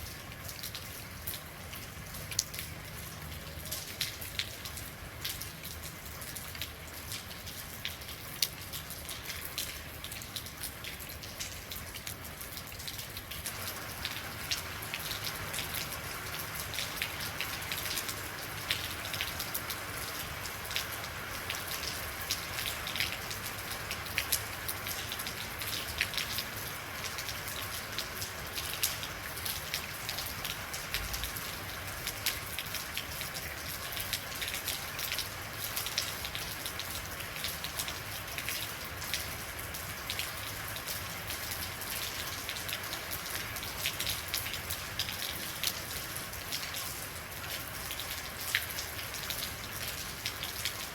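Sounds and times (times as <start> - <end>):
rain drops on hard surface: 0.0 - 50.9.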